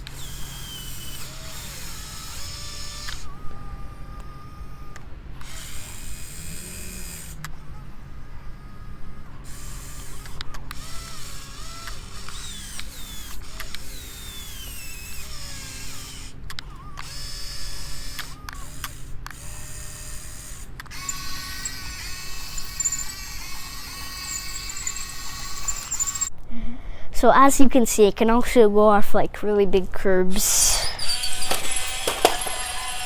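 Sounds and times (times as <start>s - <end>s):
electric motors whining and clicking: 0.0s - 26.3s, 30.3s - 33.0s.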